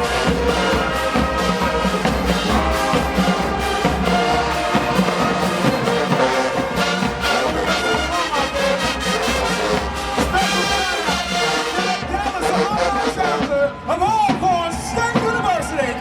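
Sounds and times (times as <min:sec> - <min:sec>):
brass section playing: 0:00.0 - 0:13.9
low drums beating: 0:00.0 - 0:16.0.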